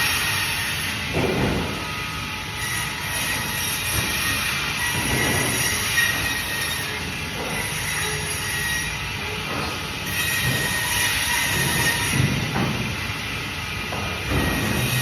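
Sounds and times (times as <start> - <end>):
band saw cutting fish: 0.0 - 12.7, 14.3 - 15.0.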